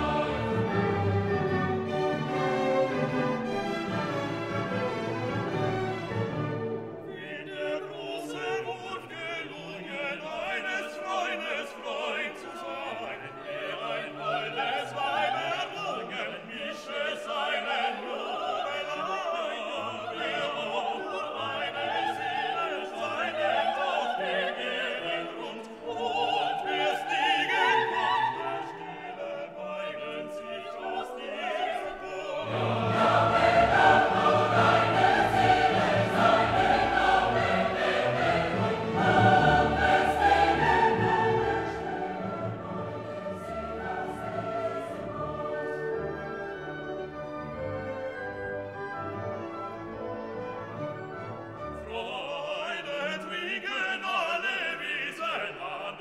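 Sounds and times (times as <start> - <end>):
choral singing with orchestra: 0.0 - 56.0.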